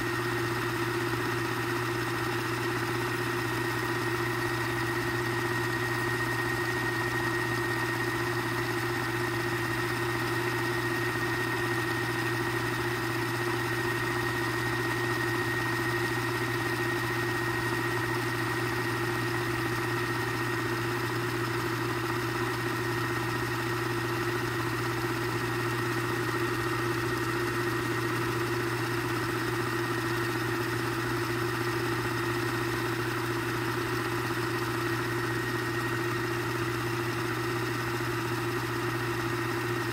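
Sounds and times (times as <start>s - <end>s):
cassette duplicator motor whir: 0.0s - 39.9s.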